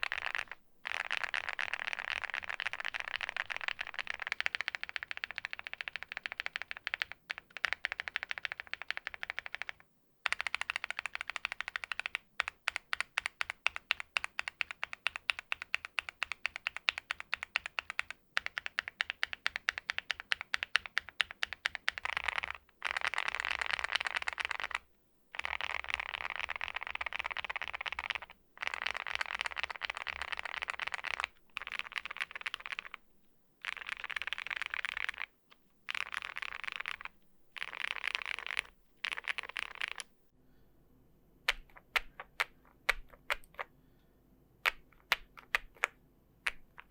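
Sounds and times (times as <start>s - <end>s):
mechanical keyboard typing: 0.0s - 24.8s, 25.4s - 33.0s, 33.6s - 35.3s, 35.9s - 40.1s.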